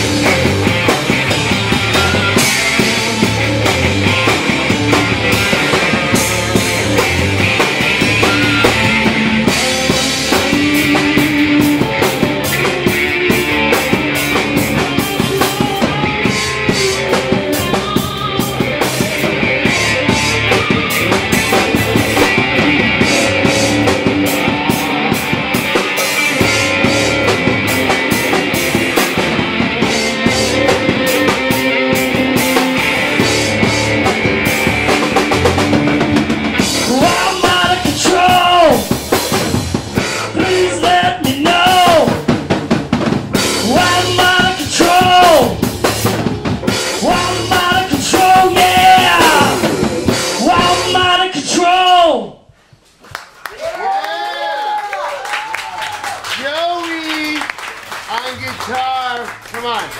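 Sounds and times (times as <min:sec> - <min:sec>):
live rock band playing: 0:00.0 - 0:52.0.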